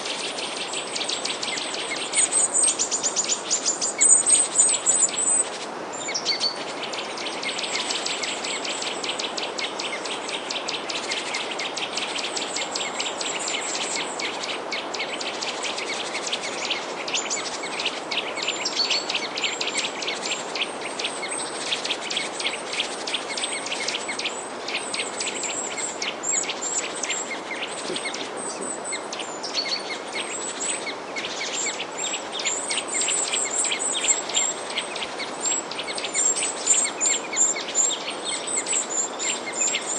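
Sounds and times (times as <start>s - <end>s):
rushing background hiss: 0.0s - 39.9s
small birds chirping: 0.0s - 39.9s.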